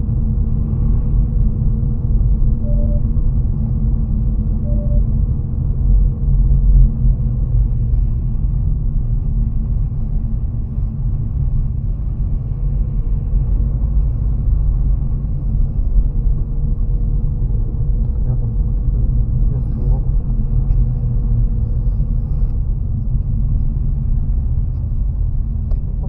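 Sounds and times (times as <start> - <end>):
car driving heard from cabin: 0.0 - 26.0.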